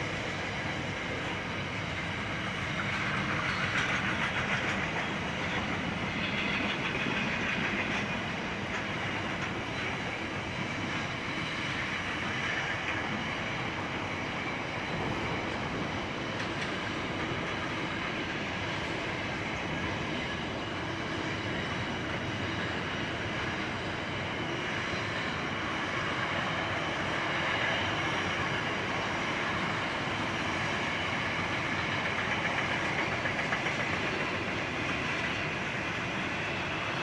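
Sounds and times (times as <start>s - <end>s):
train wheels rolling on rails: 0.0s - 37.0s.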